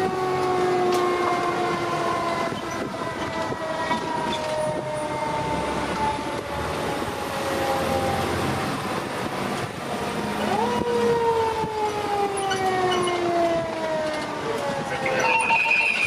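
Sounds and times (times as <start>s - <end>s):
fire truck siren winding down: 0.0s - 16.0s.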